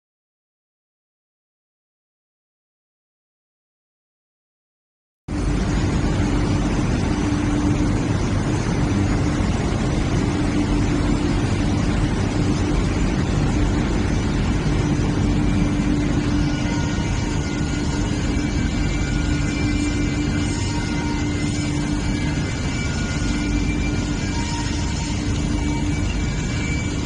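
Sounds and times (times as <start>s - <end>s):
faint high whines: 5.3s - 27.0s
production machine running: 5.3s - 27.0s.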